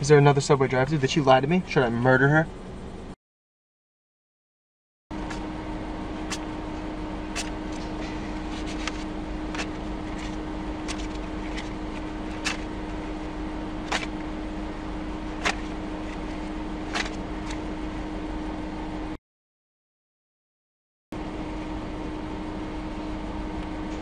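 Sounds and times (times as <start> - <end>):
idling car interior hum: 0.0 - 3.2, 5.1 - 19.2, 21.2 - 24.0.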